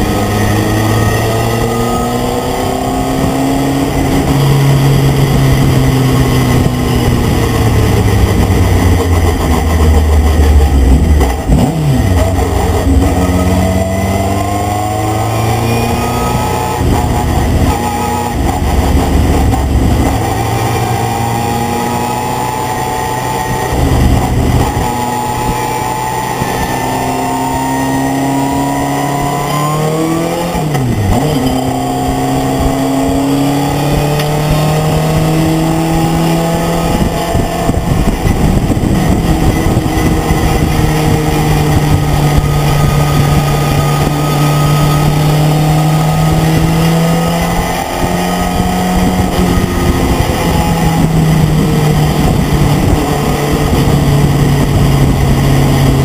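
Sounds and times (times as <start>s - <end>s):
racing truck engine: 0.0s - 56.0s
road and wind noise: 0.0s - 56.0s.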